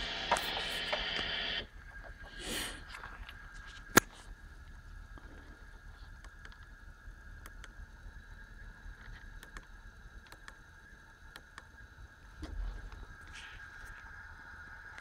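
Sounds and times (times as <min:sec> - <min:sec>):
faint high whine: 0:00.0 - 0:15.0
low hum: 0:00.0 - 0:15.0.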